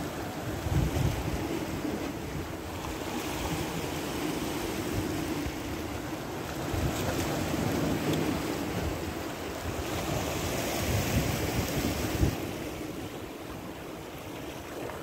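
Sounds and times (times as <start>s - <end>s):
wind buffeting microphone: 0.0s - 13.2s
sea water washing: 0.0s - 15.0s.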